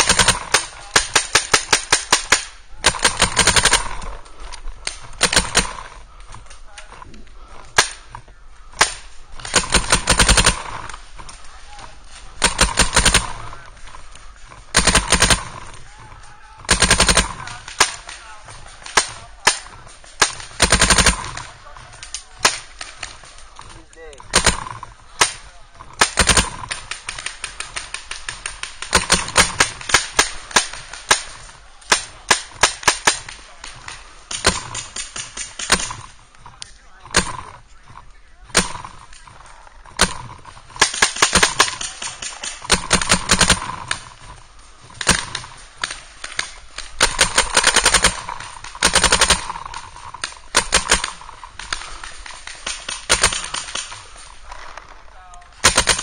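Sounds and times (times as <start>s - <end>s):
paintball markers firing: 0.0s - 6.7s, 7.4s - 56.0s.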